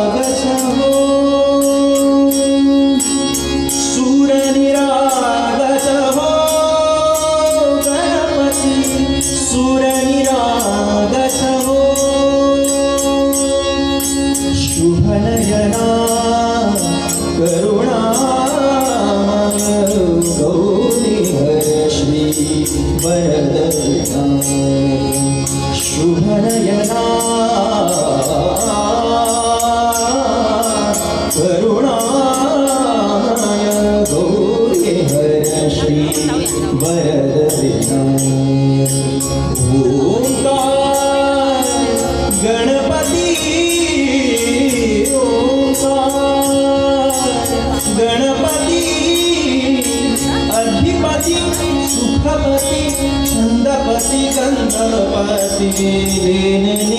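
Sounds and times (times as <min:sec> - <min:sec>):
gliding melody line: 0:00.0 - 0:56.9
tabla rhythm: 0:00.0 - 0:56.9.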